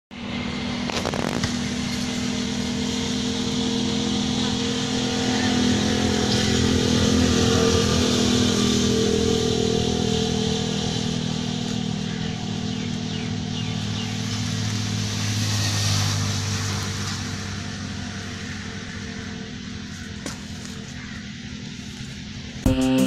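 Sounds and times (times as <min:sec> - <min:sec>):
engine running steadily: 0:00.1 - 0:23.0.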